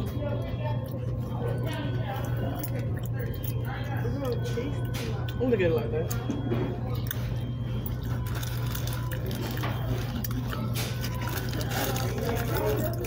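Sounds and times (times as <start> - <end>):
clicks and rustles of eating: 0.0 - 13.0
low mechanical room hum: 0.0 - 13.0.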